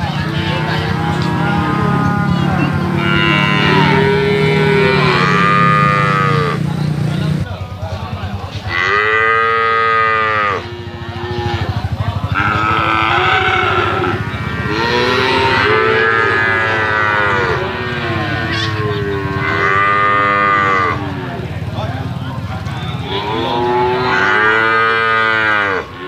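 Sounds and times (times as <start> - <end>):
cattle mooing: 0.0 - 6.6, 8.6 - 21.6, 22.9 - 26.0.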